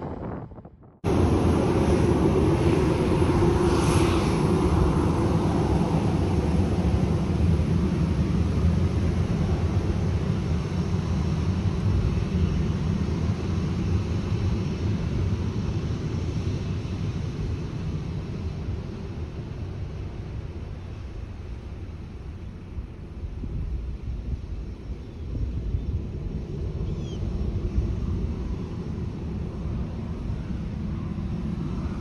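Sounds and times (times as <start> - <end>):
jet engines rumbling and hissing: 0.0 - 32.0.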